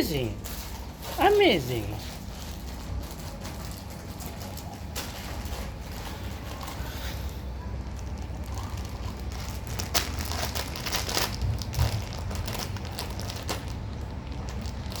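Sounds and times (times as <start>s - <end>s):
crinkly material rustling: 0.0s - 15.0s
steady low hum: 0.0s - 15.0s.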